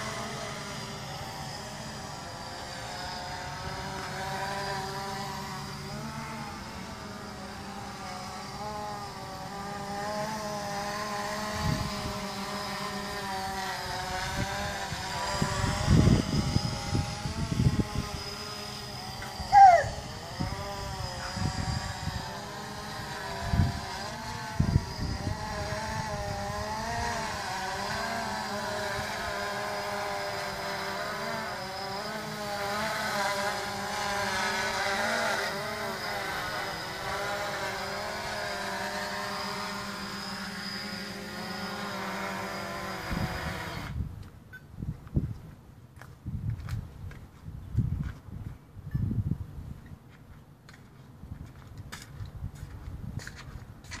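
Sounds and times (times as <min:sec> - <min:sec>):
drone propellers buzzing: 0:00.0 - 0:44.3.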